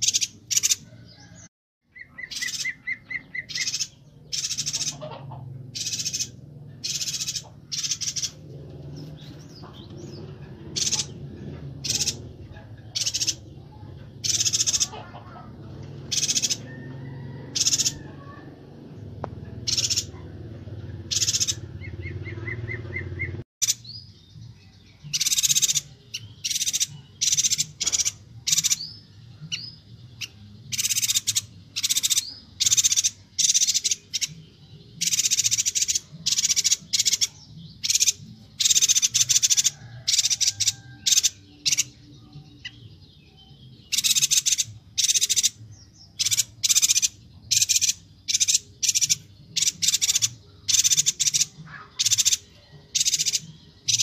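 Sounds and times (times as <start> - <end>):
bird chattering calls: 0.0 - 1.3, 1.9 - 18.5, 19.4 - 24.0, 25.1 - 42.0, 43.8 - 54.0.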